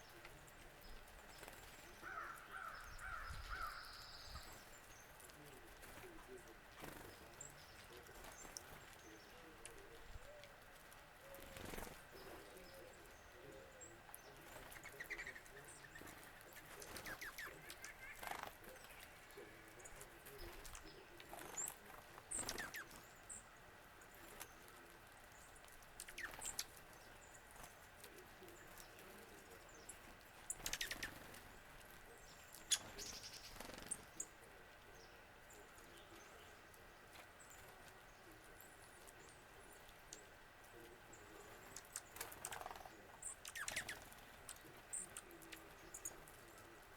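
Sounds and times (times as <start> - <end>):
faint wild bird calls: 0.0 - 46.9.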